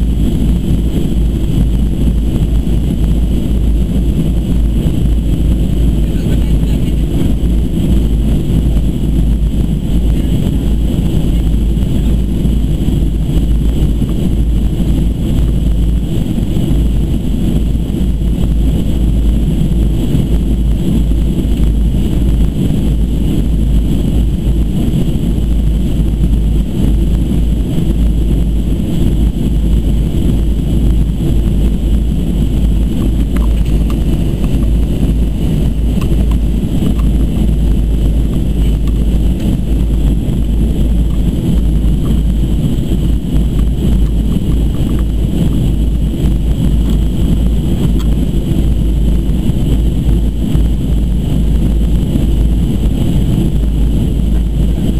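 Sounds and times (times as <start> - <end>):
airplane cabin rumble: 0.0 - 54.9
faint high hum: 0.0 - 54.9.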